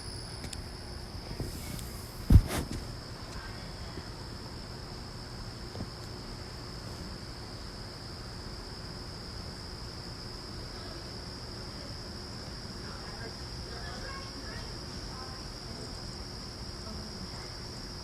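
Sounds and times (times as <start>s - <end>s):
crickets chirping chorus: 0.0s - 18.0s.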